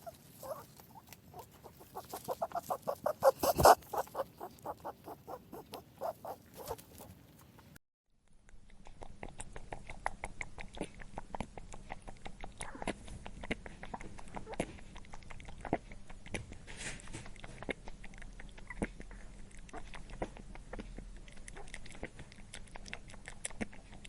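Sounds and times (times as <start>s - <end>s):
rabbit chewing crunchy food: 0.0s - 7.8s, 8.5s - 24.0s.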